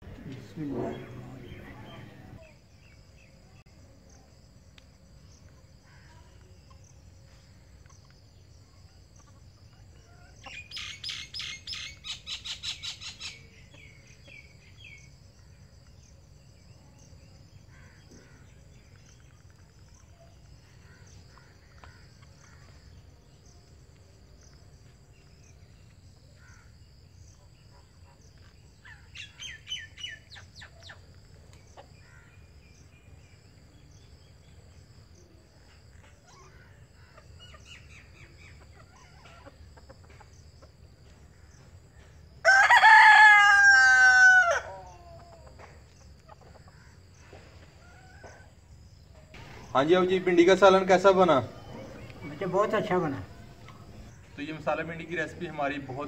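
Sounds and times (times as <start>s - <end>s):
birds chirping: 0.0s - 43.4s, 44.2s - 56.0s
high insect drone: 0.0s - 56.0s.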